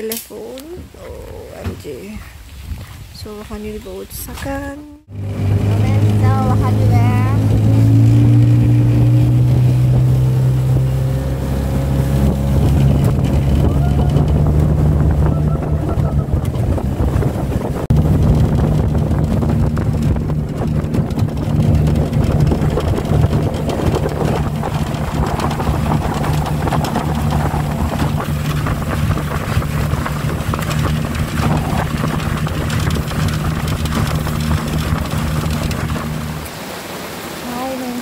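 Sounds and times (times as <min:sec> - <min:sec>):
wind buffeting microphone: 0:00.4 - 0:36.6
outboard motor running: 0:04.6 - 0:36.8.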